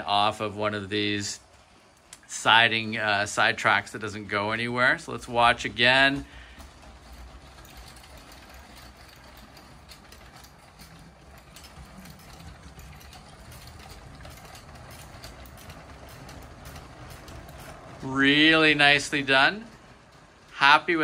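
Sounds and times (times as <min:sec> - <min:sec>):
toy train motor whir: 0:00.0 - 0:21.0
wheels clicking over rail joints: 0:00.0 - 0:21.0.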